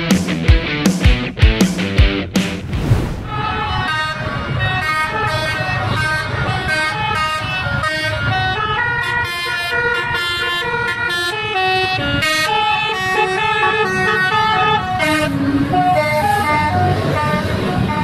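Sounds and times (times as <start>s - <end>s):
traffic rumble: 2.5s - 18.0s
multi-tone bus horn melody: 3.3s - 18.0s.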